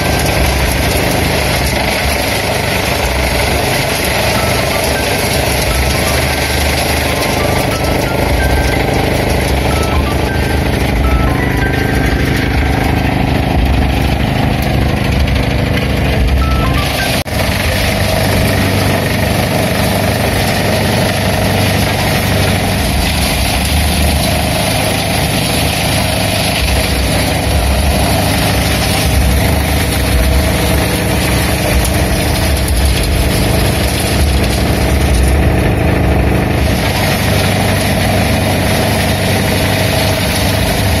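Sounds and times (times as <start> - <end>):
tractor diesel engine running: 0.0 - 41.0
wood chipper: 0.0 - 41.0.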